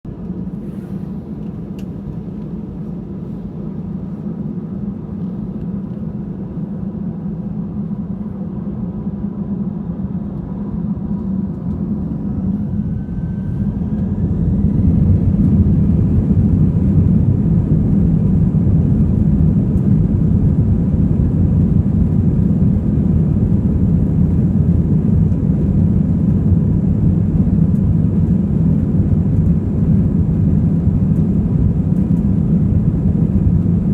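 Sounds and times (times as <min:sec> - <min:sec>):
faint rising engine whine: 0:00.1 - 0:33.9
jet engine rumble from cabin: 0:00.1 - 0:33.9.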